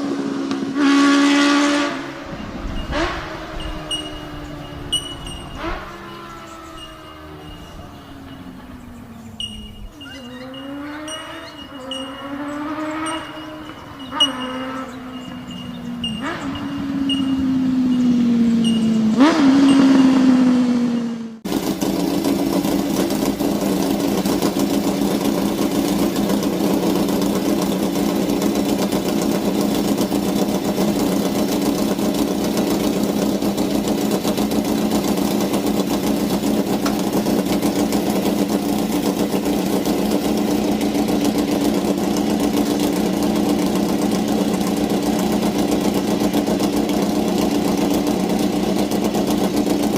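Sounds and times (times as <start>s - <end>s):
engine with falling tone: 0.0s - 49.9s
motorcycle engine idling: 1.9s - 49.9s.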